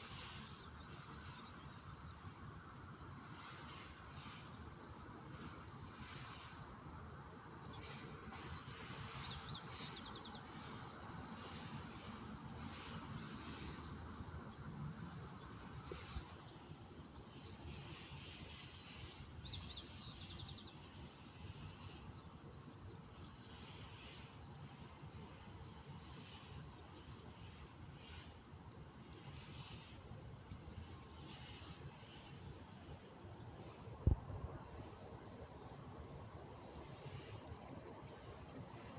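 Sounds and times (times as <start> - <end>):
faint outdoor background noise: 0.0 - 38.9
small birds chirping: 0.0 - 38.9.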